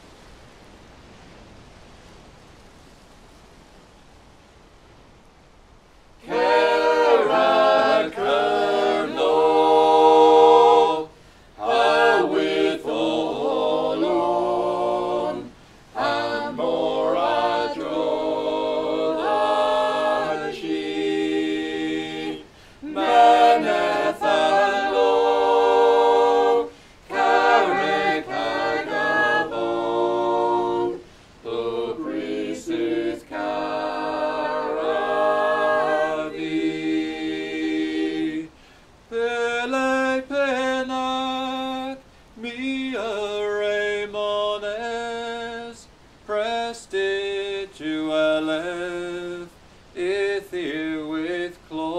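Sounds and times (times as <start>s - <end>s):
choir singing a cappella: 6.2s - 51.9s.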